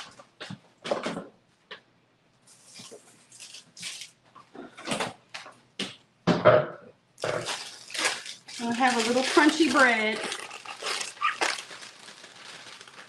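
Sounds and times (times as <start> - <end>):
kitchen items rustling and knocking: 0.0 - 1.4, 2.6 - 13.0.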